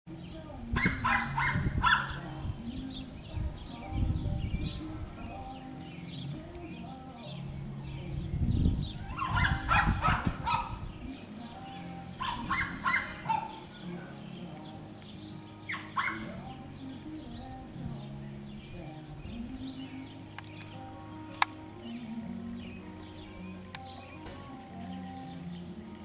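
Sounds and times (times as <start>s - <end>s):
puppies yipping and barking: 0.7s - 7.4s, 8.8s - 26.0s.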